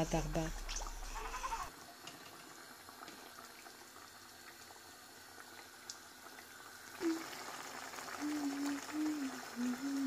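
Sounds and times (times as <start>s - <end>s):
sauce bubbling in a pan: 0.6s - 10.0s.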